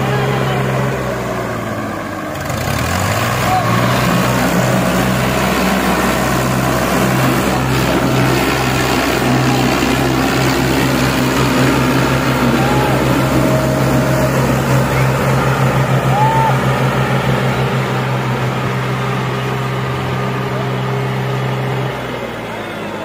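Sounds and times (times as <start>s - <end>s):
tractor diesel engines throbbing: 0.0s - 23.0s.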